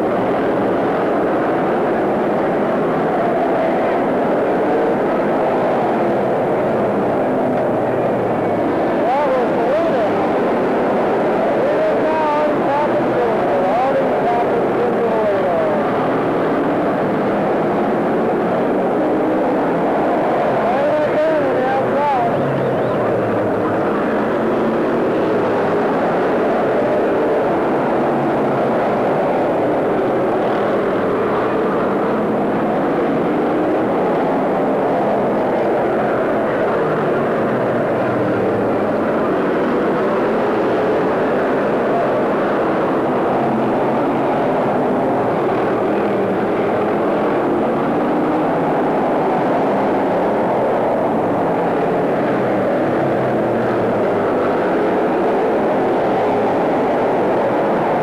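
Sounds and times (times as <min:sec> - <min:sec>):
race car engines running hard: 0:00.0 - 0:58.0.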